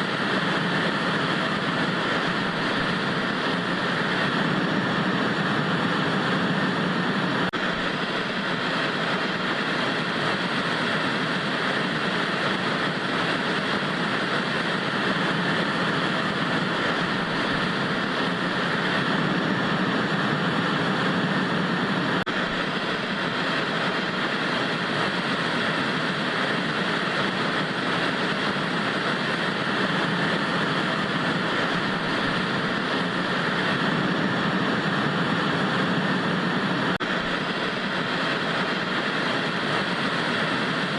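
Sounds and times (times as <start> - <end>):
tv static hiss: 0.0 - 40.9.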